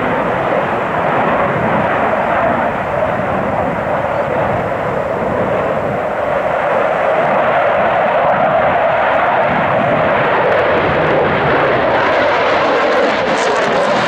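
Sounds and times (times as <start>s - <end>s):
fighter jet engine roar: 0.0s - 14.0s.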